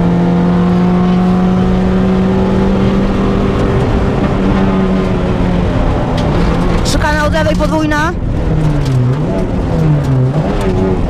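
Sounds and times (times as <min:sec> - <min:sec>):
rally car engine running: 0:00.0 - 0:11.0.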